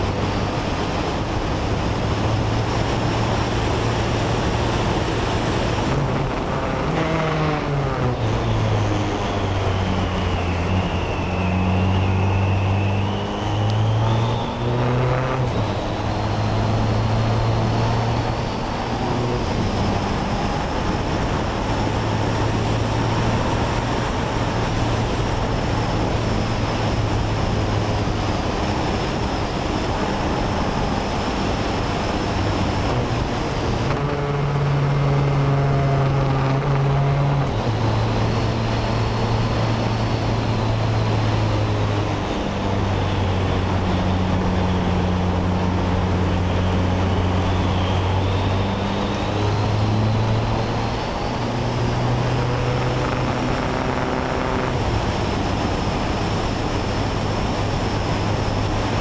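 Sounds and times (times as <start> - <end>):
wind rush: 0.0 - 59.0.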